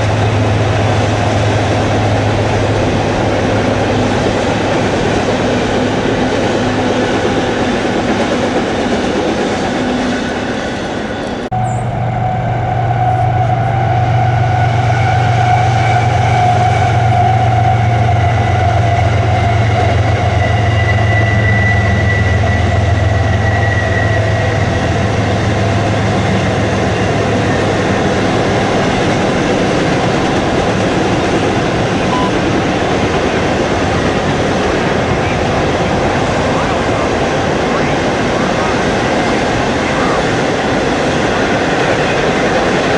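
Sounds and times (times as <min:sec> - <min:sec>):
train cars rolling on rails: 0:00.0 - 0:42.9
train engine rumble: 0:00.0 - 0:42.9.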